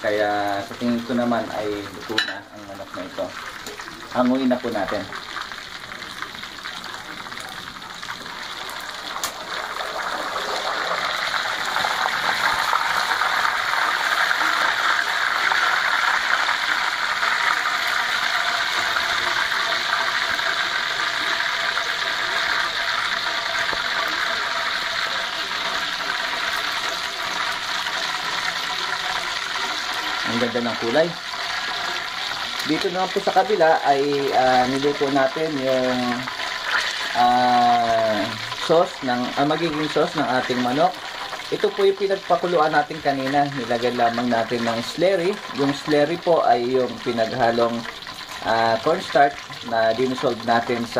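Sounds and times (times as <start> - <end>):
hot oil sizzling and bubbling: 0.0 - 50.9.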